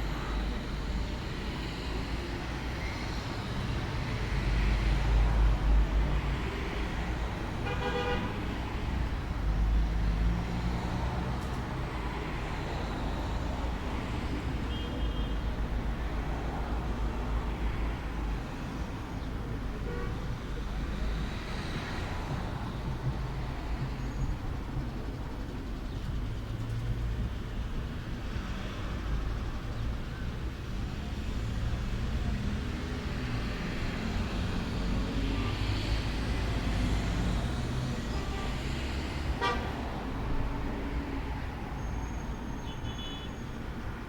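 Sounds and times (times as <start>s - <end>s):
road traffic rumble: 0.0s - 44.0s
vehicles passing: 0.0s - 44.0s.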